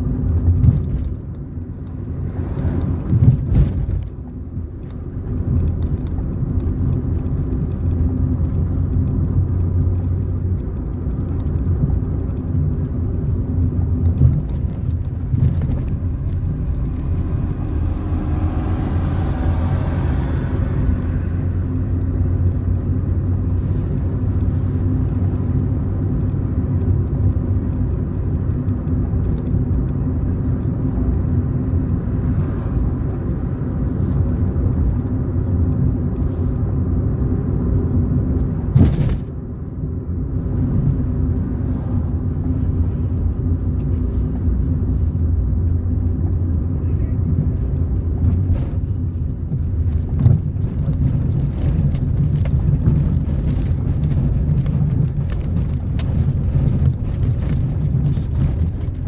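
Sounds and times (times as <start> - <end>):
engine and tyres drone: 1.3 - 59.0.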